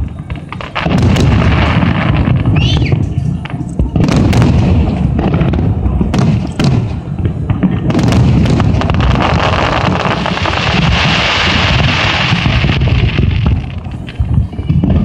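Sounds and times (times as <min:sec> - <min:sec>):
fireworks booms and bangs: 0:00.0 - 0:15.0
fireworks crackling: 0:00.0 - 0:15.0.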